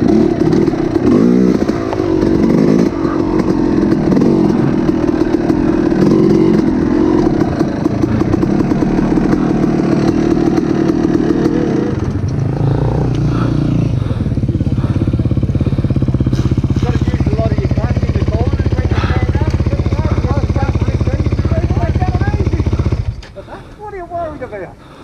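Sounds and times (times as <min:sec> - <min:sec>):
small engine running: 0:00.0 - 0:23.6.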